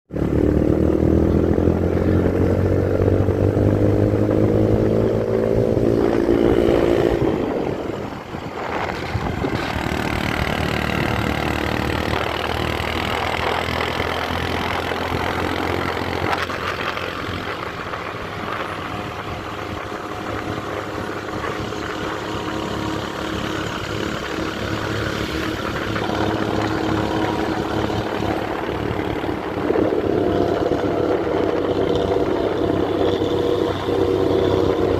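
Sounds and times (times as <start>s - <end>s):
bus diesel engine with loud exhaust: 0.1s - 34.9s.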